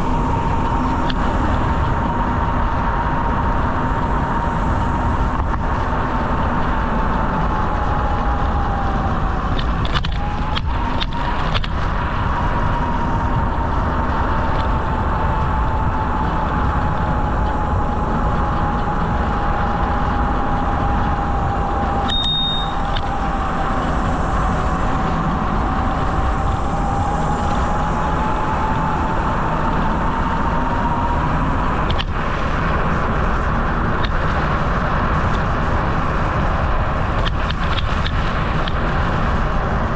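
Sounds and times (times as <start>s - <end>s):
rushing wind: 0.0s - 39.9s
thin whine: 0.0s - 39.9s.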